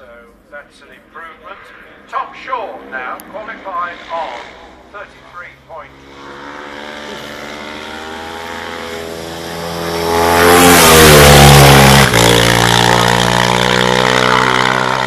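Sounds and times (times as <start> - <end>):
racing motorcycle engine full throttle: 2.4 - 15.0.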